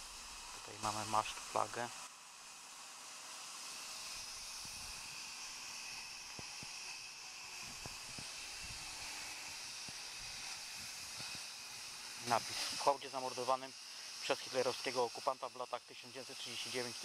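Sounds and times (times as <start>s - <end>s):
faint high whine: 0.0s - 17.0s
machinery hissing: 0.0s - 17.0s.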